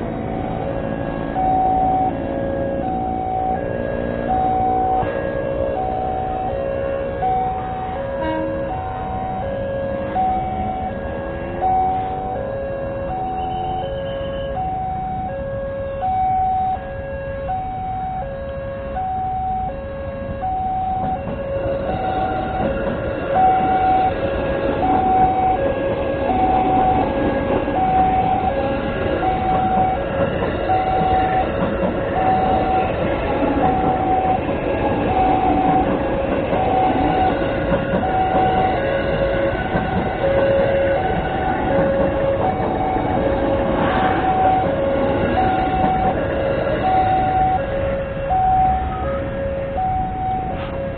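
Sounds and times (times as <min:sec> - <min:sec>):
train rumble: 0:00.0 - 0:50.9.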